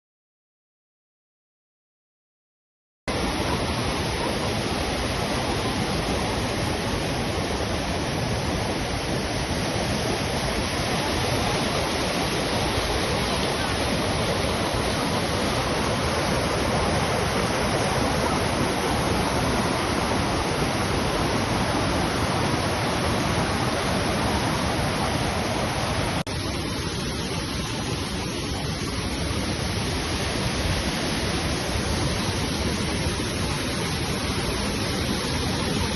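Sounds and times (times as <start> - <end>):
waterfall rushing: 3.1 - 35.9.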